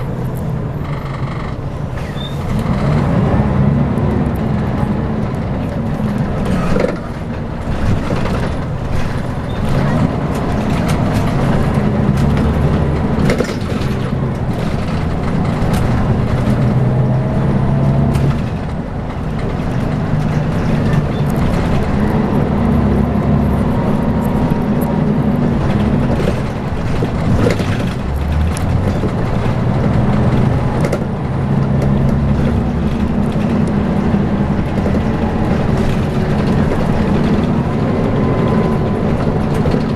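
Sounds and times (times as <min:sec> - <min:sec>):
bus body knocks and rattles: 0:00.0 - 0:39.9
bus diesel engine running: 0:00.0 - 0:39.9.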